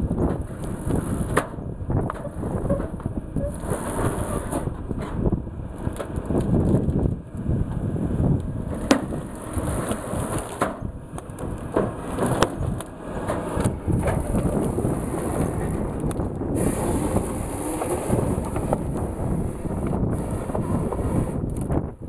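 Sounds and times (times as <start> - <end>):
wood and brush cracking: 0.0 - 7.8, 8.6 - 21.9
forestry machine diesel engine: 0.0 - 22.0.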